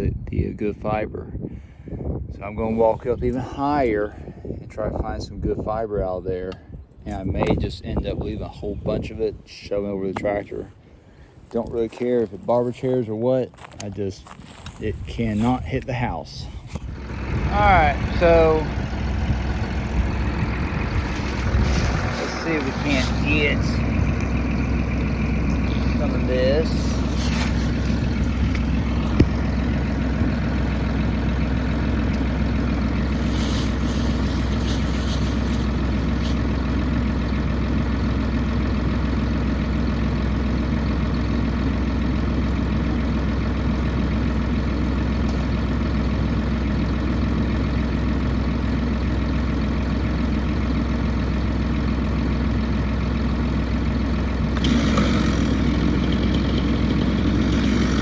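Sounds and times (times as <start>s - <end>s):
tractor engine idling: 2.6s - 58.0s.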